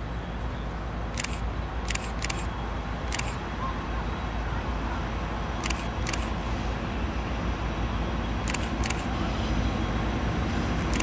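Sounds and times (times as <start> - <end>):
train rumbling by: 0.0 - 11.0.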